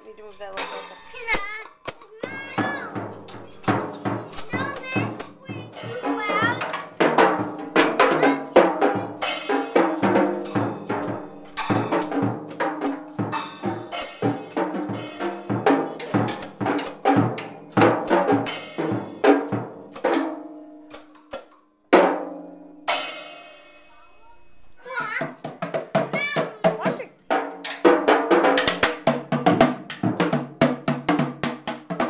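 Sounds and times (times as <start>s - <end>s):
drum kit strikes: 0.6s - 32.0s.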